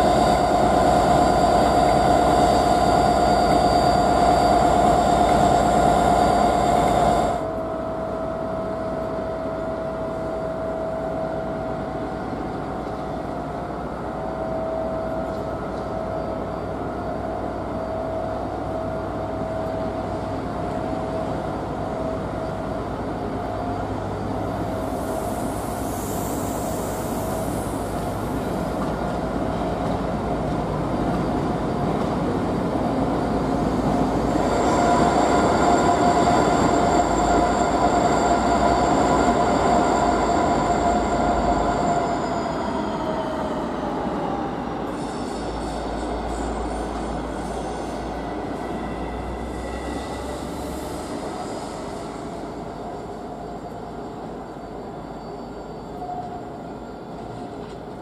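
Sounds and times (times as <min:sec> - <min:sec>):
diesel locomotive engine whine: 0:00.0 - 0:58.0.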